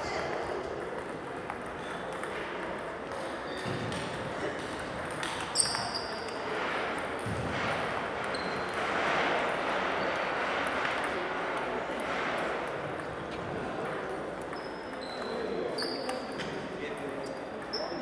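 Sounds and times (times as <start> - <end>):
murmur of busy hall: 0.0 - 18.0
table tennis balls clicking: 0.0 - 18.0.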